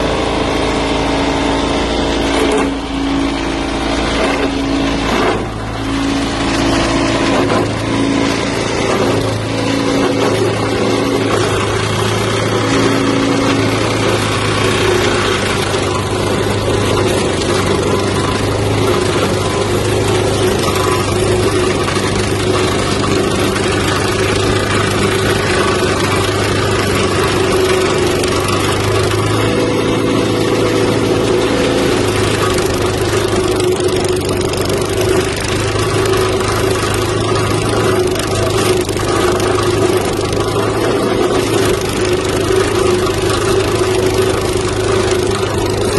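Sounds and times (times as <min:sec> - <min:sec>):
gasoline engine running steadily: 0:00.0 - 0:45.9.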